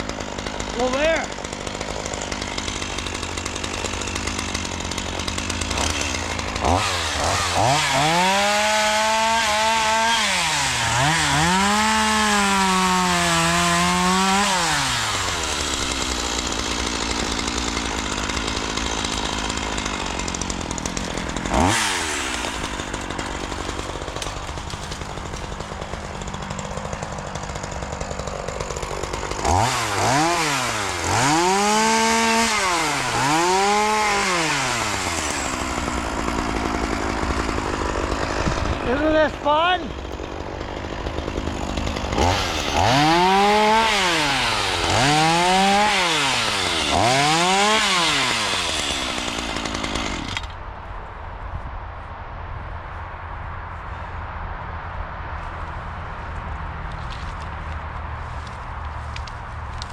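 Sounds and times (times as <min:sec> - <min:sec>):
chainsaw cutting wood: 0:00.0 - 0:50.7, 0:57.0 - 0:59.9.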